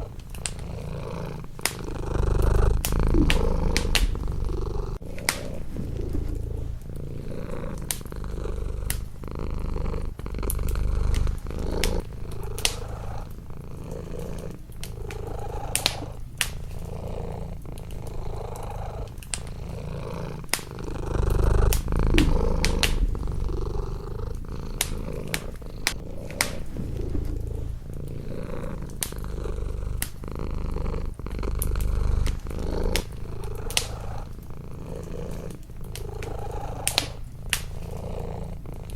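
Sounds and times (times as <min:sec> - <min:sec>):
cat purring: 0:00.0 - 0:38.9
crackling wood fire: 0:00.0 - 0:38.9.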